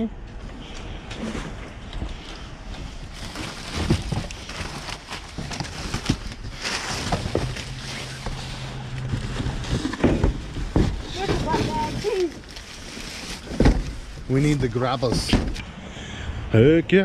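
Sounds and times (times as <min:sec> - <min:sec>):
knocks of objects being moved: 0:00.4 - 0:15.8
plastic garbage bags rustling: 0:01.2 - 0:15.3.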